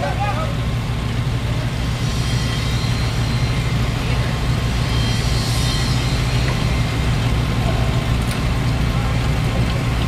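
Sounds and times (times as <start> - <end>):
large engine idling: 0.0 - 10.0.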